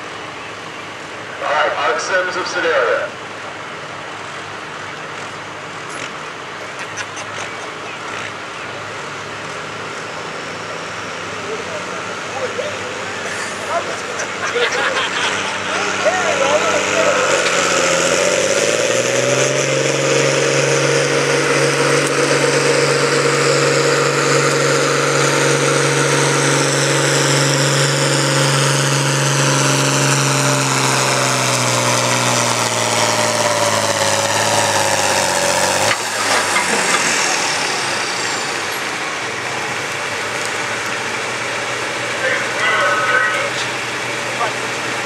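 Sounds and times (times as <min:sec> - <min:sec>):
tractor engine at full throttle: 0:00.0 - 0:45.0.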